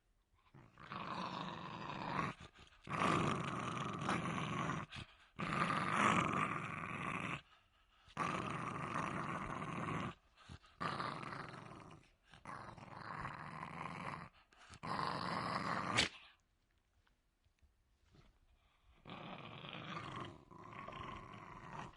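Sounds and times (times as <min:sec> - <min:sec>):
dog growling: 0:00.5 - 0:16.3, 0:18.8 - 0:21.9.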